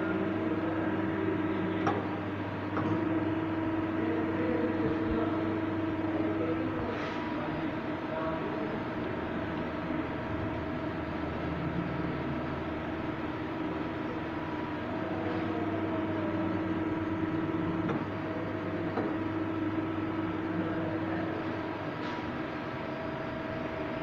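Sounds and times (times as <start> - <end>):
lathe motor hum and whine: 0.0 - 24.0.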